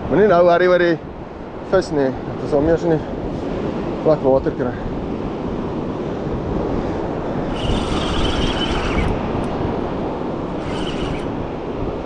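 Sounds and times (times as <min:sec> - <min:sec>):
wind on microphone: 0:01.0 - 0:12.0.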